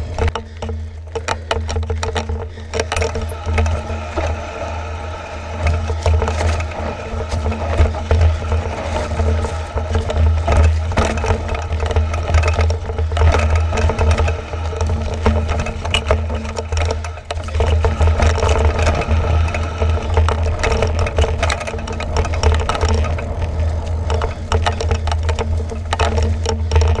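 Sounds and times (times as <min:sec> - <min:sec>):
bike rattling over rocky trail: 0:00.0 - 0:27.0
wind rumble on microphone: 0:00.0 - 0:27.0.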